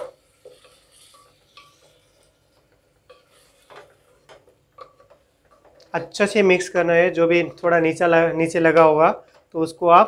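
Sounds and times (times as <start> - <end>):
spatula stirring wet vegetables: 0.0 - 10.0.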